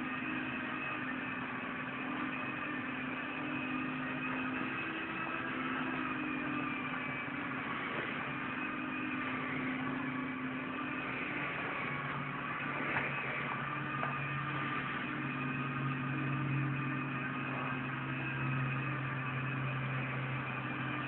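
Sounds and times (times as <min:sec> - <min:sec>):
machine humming with high whine: 0:00.0 - 0:21.0.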